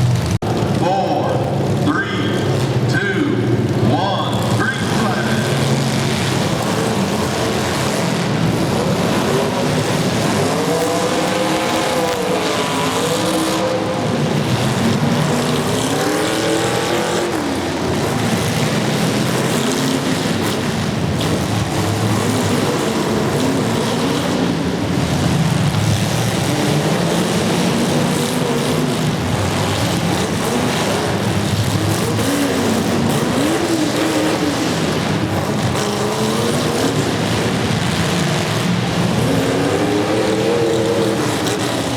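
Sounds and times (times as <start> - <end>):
arena noise: 0.0 - 41.9
car engines revving: 0.0 - 41.9.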